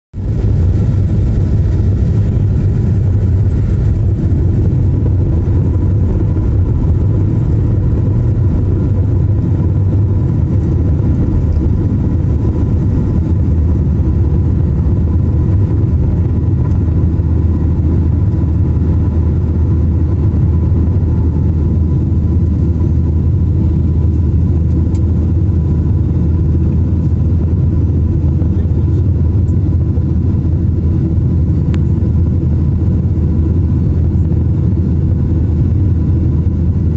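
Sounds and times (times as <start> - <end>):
jet engines rumbling in cabin: 0.1 - 36.9
faint engine whine: 0.2 - 36.9.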